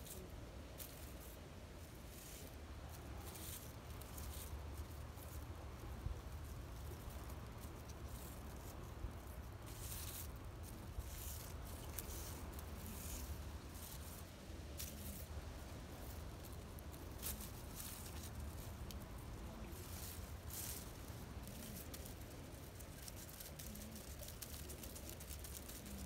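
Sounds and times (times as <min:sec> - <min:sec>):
dry leaf scraping on pavement: 0:00.0 - 0:26.0
faint low rumble: 0:00.0 - 0:26.0.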